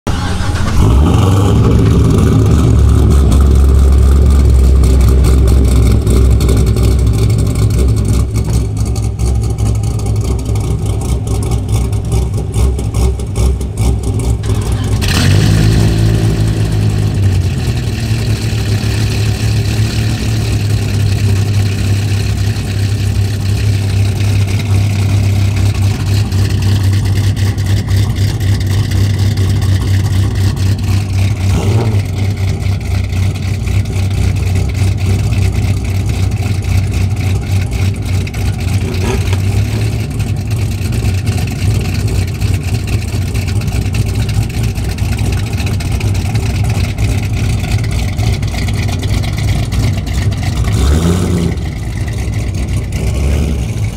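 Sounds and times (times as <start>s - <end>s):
car engine idling lopey rumble: 0.0s - 53.9s.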